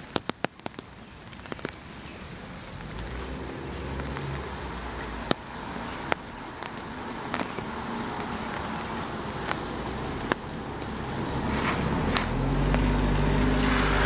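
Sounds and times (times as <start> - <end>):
sharp drips: 0.0 - 14.0
steady rain: 0.0 - 14.0
vehicle engine running low: 2.2 - 14.0.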